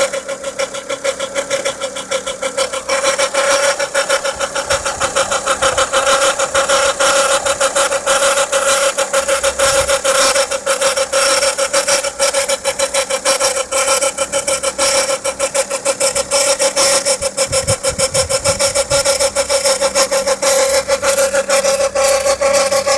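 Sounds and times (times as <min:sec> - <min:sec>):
car engine whine: 0:00.0 - 0:22.9
fast rubbing rasp: 0:00.0 - 0:22.9.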